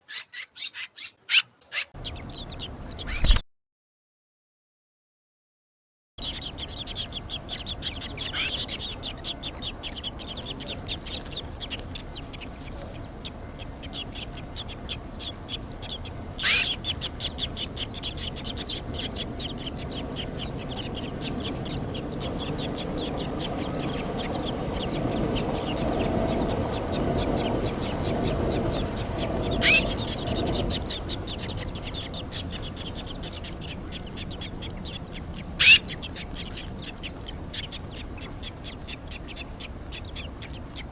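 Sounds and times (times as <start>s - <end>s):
nestlings begging chirps: 0.0s - 3.4s, 6.2s - 40.9s.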